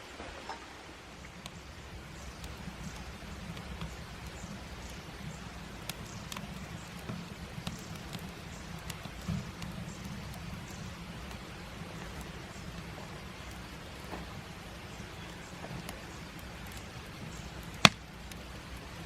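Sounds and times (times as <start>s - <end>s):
rain drops ticking: 0.0s - 19.0s.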